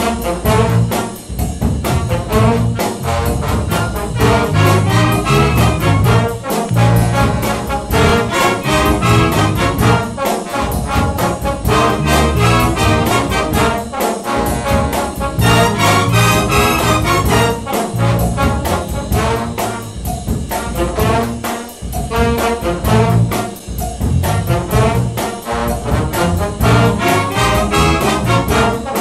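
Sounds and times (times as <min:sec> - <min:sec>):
brass background music: 0:00.0 - 0:29.0
steady beat: 0:00.0 - 0:29.0.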